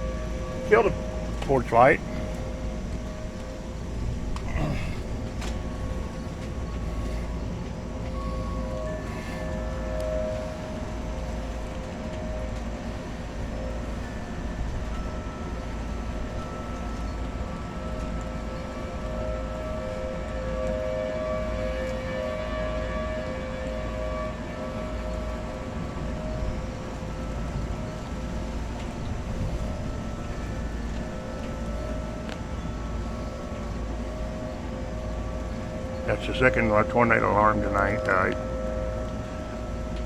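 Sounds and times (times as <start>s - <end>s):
siren two-tone wail: 0.0s - 40.0s.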